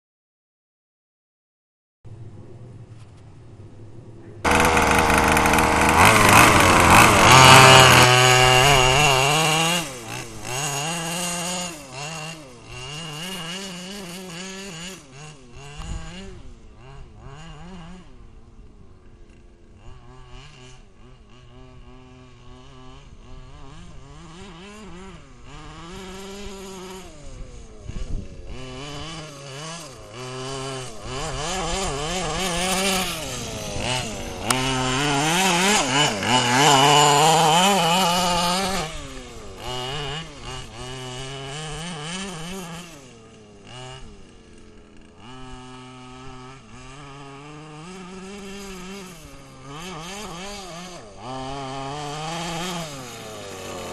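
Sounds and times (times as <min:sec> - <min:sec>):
two-stroke engine revving: 0:04.4 - 0:53.9.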